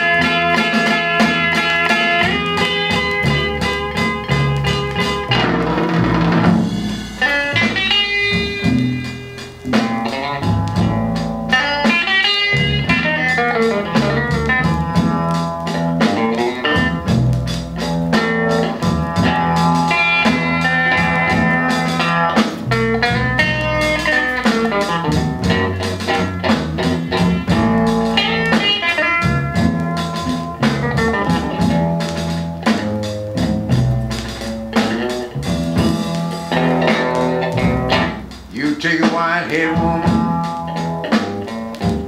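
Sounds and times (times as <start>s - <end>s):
bass line: 0.0s - 42.0s
blues guitar melody: 0.0s - 42.0s
drums: 0.0s - 42.0s.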